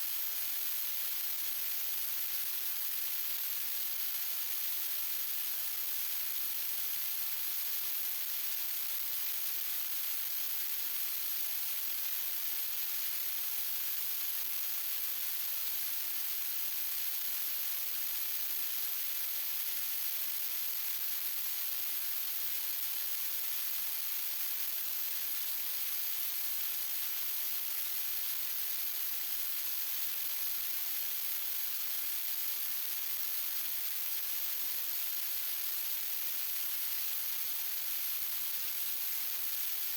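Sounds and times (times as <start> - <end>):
static noise hiss: 0.0 - 39.9.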